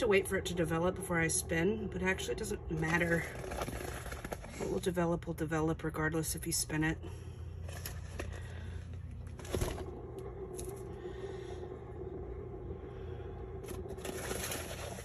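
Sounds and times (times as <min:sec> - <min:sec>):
paint spinner humming: 0:00.0 - 0:15.0.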